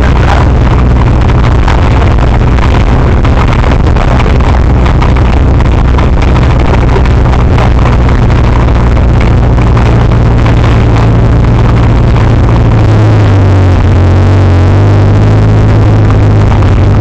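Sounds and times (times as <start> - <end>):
loud car engine at steady revs: 0.0 - 17.0
rough rushing noise: 0.0 - 17.0.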